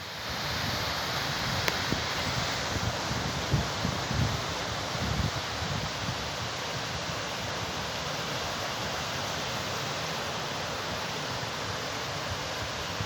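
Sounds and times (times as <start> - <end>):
sea surf washing on shore: 0.0 - 13.0.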